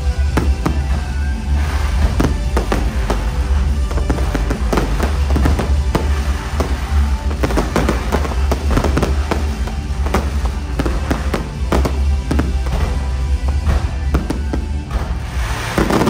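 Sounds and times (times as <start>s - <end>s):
fireworks bangs and crackles: 0.0s - 16.0s
loud music with heavy bass: 0.0s - 16.0s.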